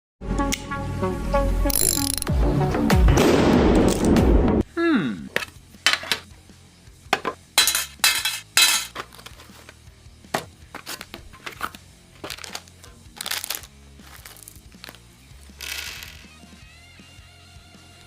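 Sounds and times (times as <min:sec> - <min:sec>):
background music with bass line: 0:00.2 - 0:18.0.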